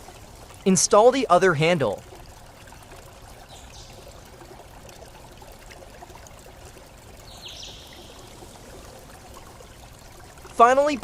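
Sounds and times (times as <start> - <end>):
faint flowing water: 0.0 - 11.0.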